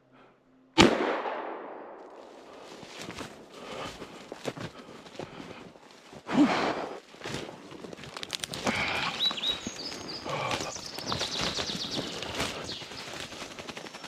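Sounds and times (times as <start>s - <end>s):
footsteps through undergrowth: 2.0s - 14.0s
twigs cracking: 2.0s - 14.0s
leaves rustling: 2.2s - 14.0s.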